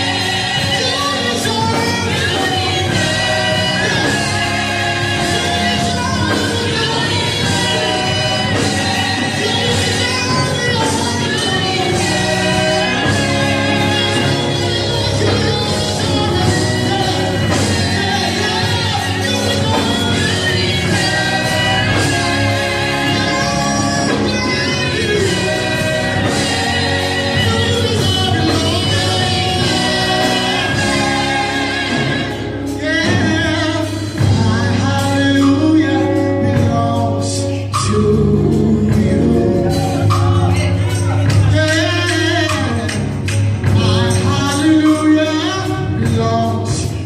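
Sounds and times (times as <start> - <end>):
gospel voices singing: 0.0 - 47.0
sustained instrumental accompaniment: 0.0 - 47.0.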